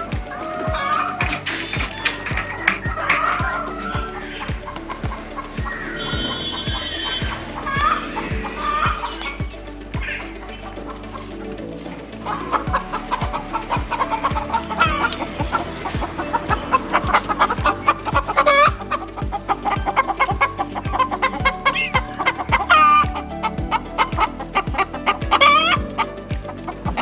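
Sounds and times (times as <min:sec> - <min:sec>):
background music with low beat: 0:00.0 - 0:27.0
chickens clucking: 0:00.4 - 0:11.6, 0:12.2 - 0:25.8.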